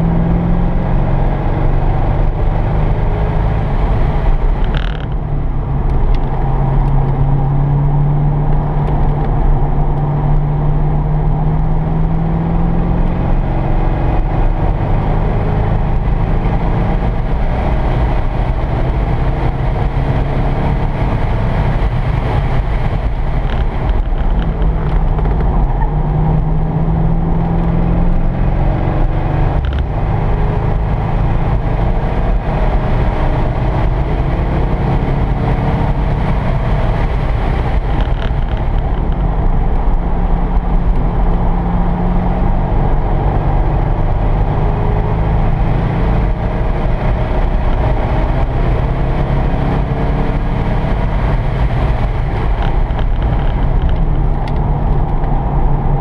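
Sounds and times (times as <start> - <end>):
car engine rumble revving: 0.0 - 56.0.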